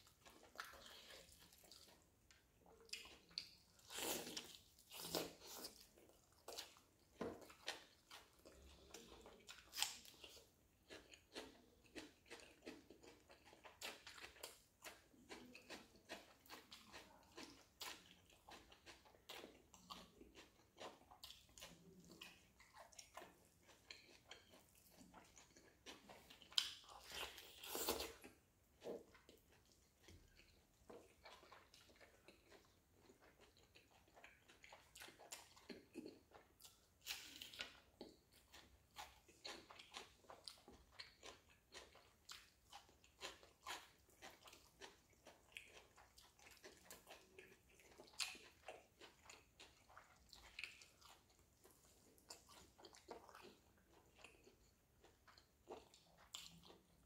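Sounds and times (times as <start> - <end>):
chewing with mouth clicks: 0.0 - 57.0.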